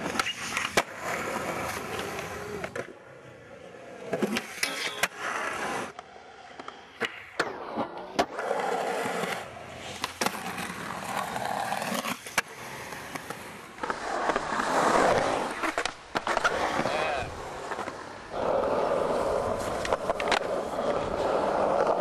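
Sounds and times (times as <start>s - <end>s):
skateboard clacking on ground: 0.0s - 3.0s, 4.0s - 22.0s
skateboard wheels rolling on concrete: 0.0s - 22.0s.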